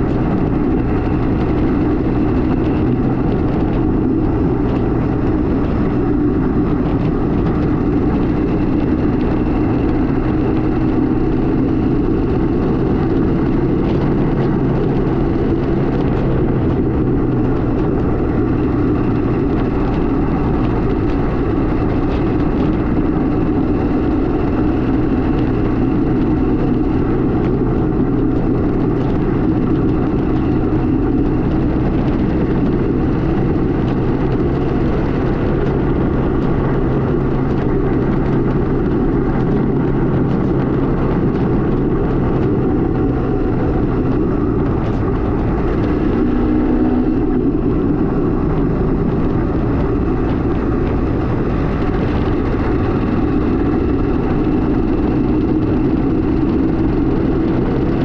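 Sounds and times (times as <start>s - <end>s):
two-stroke motorcycle engine running: 0.0s - 58.0s.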